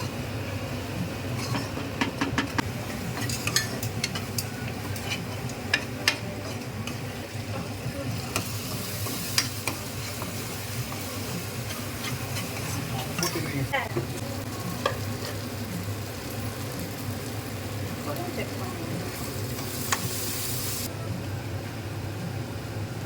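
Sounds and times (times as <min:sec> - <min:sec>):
food sizzling: 0:00.0 - 0:20.9.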